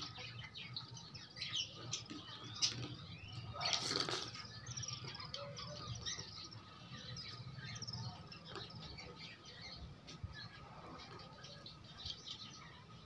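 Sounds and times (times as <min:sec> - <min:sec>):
beaks pecking grain from steel bowl: 0:00.0 - 0:12.5.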